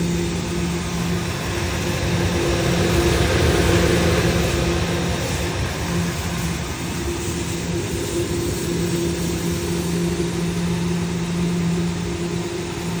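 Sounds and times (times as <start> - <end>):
steady low hum: 0.0 - 13.0
ventilation fan air rush: 0.0 - 13.0.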